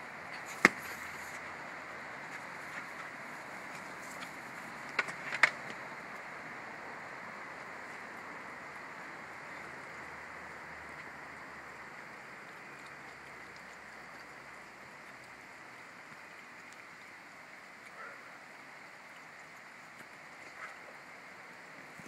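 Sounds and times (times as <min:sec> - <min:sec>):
faint background hiss: 0:00.0 - 0:22.0.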